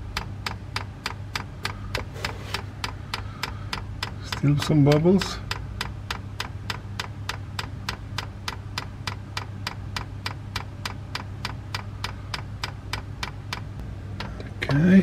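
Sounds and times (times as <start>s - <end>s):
fuel pump ticking: 0.0s - 14.8s.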